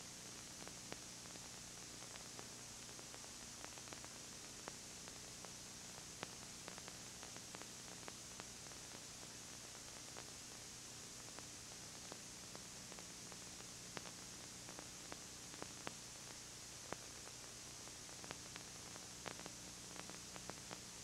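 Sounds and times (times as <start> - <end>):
tape hiss: 0.0 - 21.0
small clicks and crackles: 0.3 - 21.0.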